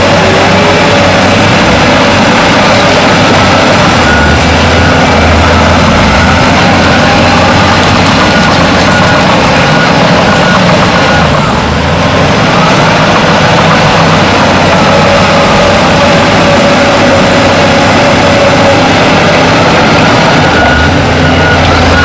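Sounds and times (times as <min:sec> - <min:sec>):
diesel machinery engine: 0:00.0 - 0:22.0
machinery clatter: 0:00.0 - 0:22.0.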